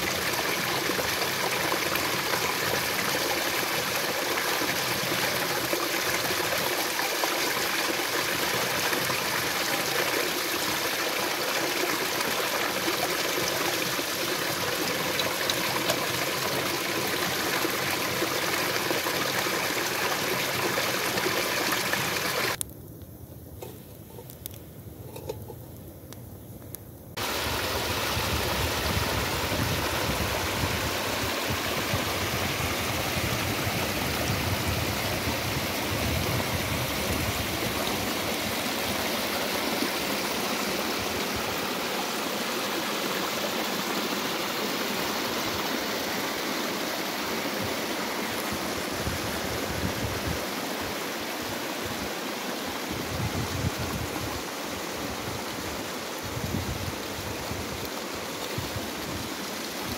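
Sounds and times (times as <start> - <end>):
stream rushing over stones: 0.0 - 22.6, 27.2 - 59.9
waterfall splashing onto rocks: 0.0 - 22.6, 27.2 - 59.9.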